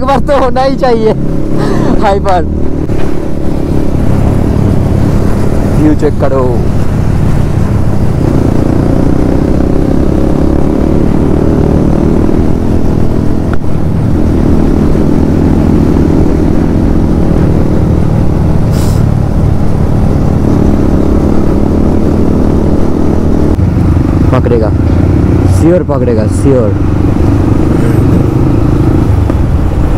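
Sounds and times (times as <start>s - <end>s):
motorcycle engine at high revs: 0.0s - 29.9s.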